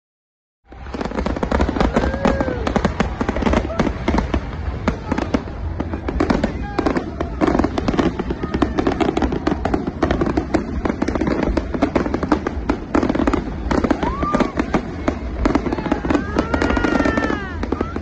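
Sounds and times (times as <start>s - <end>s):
fireworks bursts and crackles: 0.7s - 18.0s.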